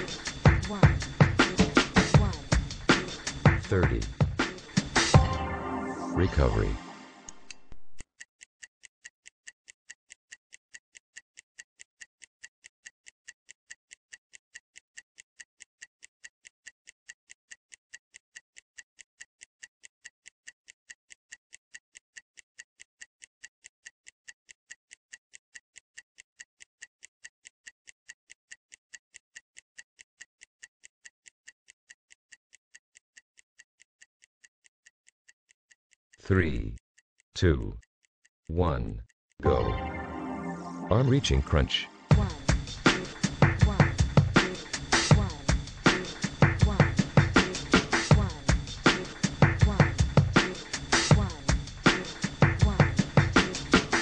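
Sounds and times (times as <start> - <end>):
timer ticking: 0.0 - 54.0.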